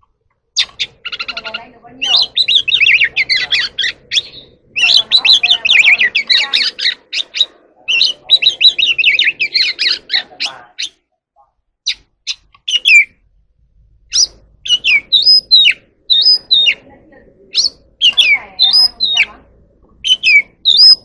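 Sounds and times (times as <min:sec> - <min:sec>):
bird singing chirps and whistles: 0:00.6 - 0:11.0, 0:11.8 - 0:13.2, 0:14.1 - 0:16.8, 0:17.5 - 0:19.3, 0:20.0 - 0:21.0.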